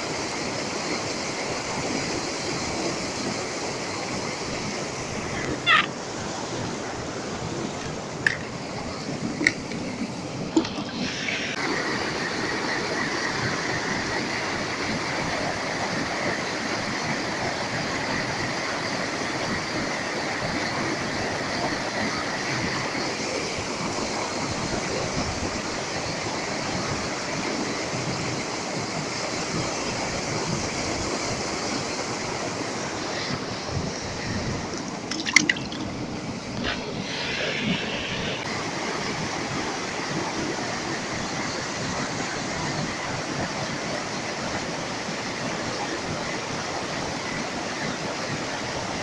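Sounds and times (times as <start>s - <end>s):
flowing creek water: 0.0s - 49.0s.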